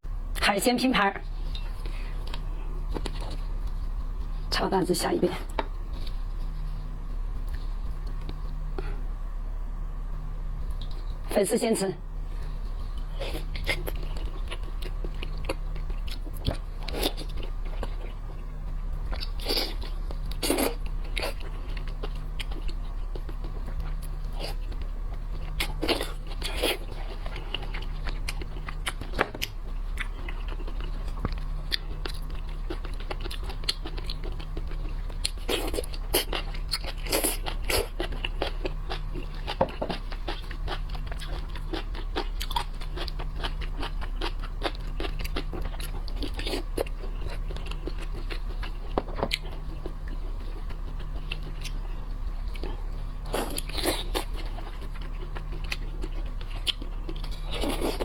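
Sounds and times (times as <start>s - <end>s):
low hum: 0.0s - 58.0s
person chewing and crunching: 1.2s - 4.6s, 12.2s - 58.0s.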